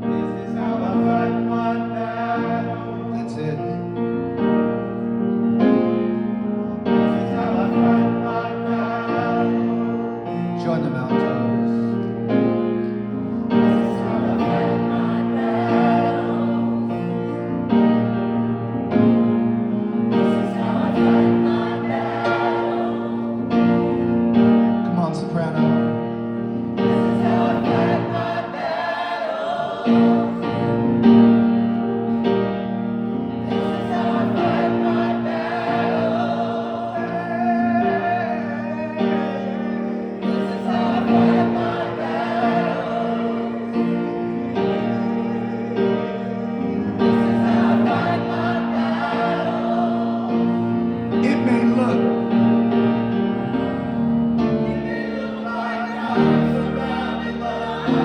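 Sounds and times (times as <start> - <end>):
choir singing gospel chorus: 0.0 - 24.9, 25.7 - 58.0
held keyboard chords: 0.0 - 58.0.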